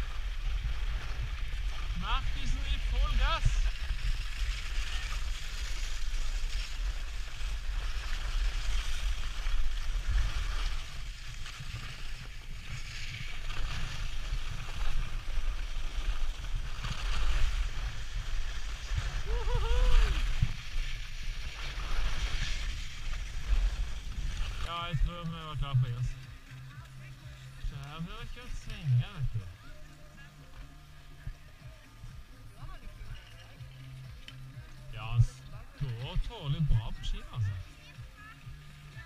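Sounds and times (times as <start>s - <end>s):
skis scraping over snow: 0.0s - 39.0s.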